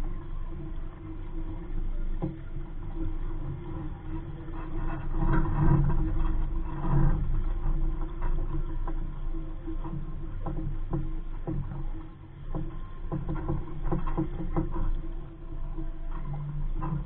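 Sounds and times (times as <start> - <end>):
muffled wind: 0.0 - 17.0
water noise around boat: 0.0 - 17.0.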